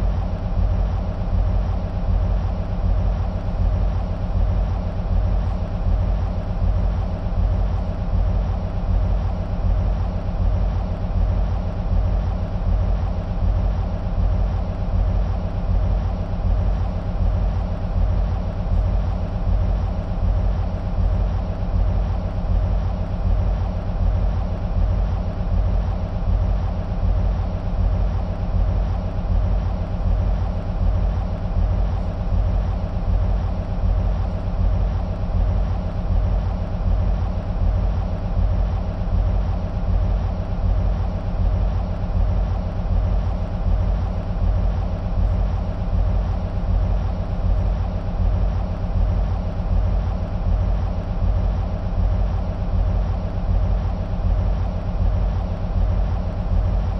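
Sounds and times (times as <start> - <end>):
diesel locomotive engines idling: 0.0 - 56.9.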